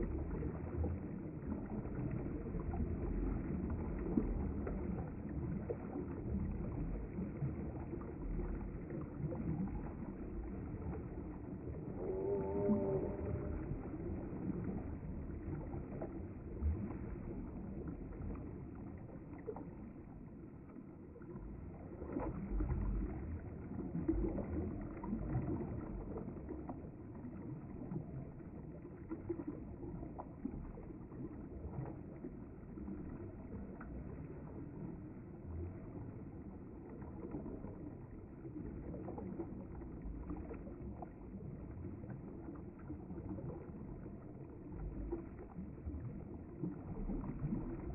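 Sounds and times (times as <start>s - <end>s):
small water splashes: 0.0s - 47.9s.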